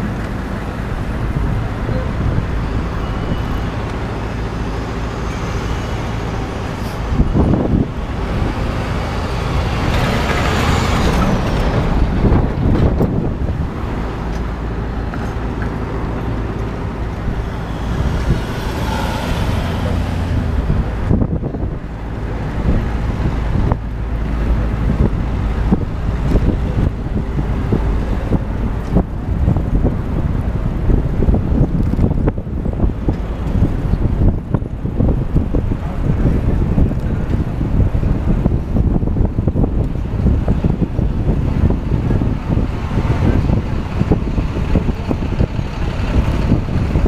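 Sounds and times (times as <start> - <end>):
traffic engines rumbling: 0.0 - 47.0.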